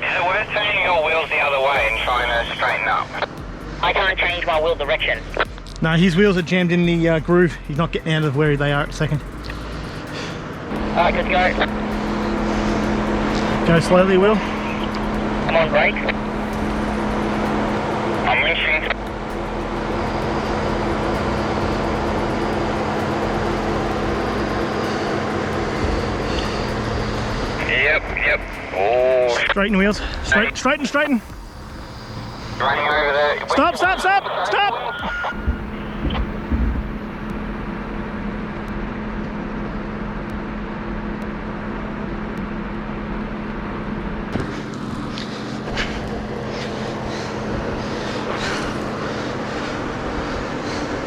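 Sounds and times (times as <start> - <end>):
vehicle engine idling: 0.0 - 51.0
winch motor drone: 0.0 - 51.0.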